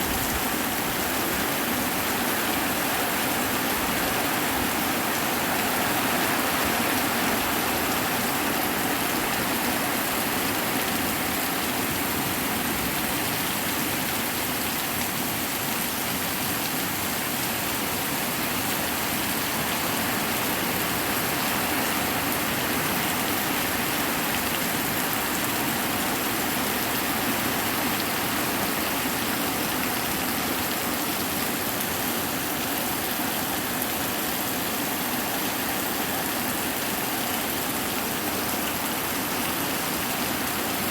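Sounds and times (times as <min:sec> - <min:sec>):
hard rain pouring: 0:00.0 - 0:40.9.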